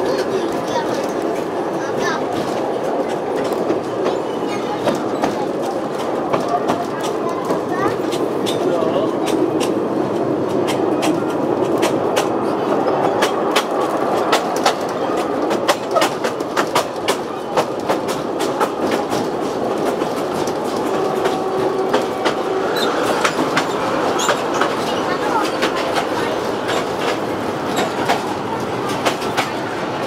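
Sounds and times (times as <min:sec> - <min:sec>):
train carriages rattling rumble: 0:00.0 - 0:30.0
wheels clacking on rails: 0:00.0 - 0:30.0.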